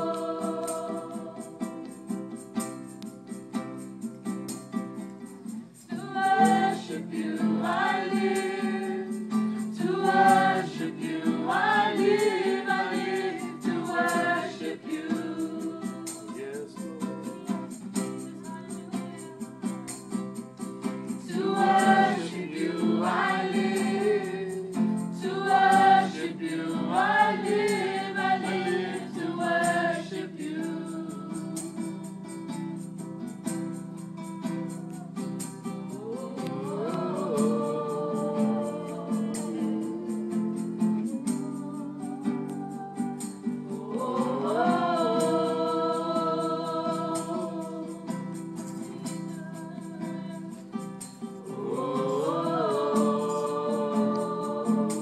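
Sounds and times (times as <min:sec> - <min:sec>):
group singing a worship song: 0:00.0 - 0:03.1, 0:05.8 - 0:55.0
acoustic guitar strummed: 0:00.0 - 0:30.4, 0:31.1 - 0:55.0
tambourine shaken: 0:00.0 - 0:55.0.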